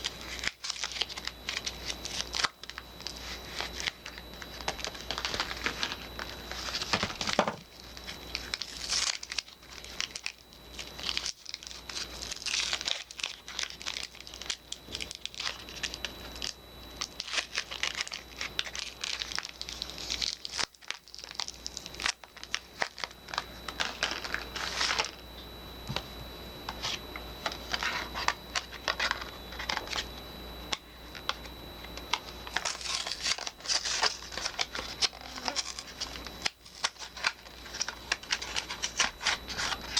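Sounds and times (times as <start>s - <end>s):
wrapper crinkling and tearing: 0.0s - 25.2s, 32.4s - 39.9s.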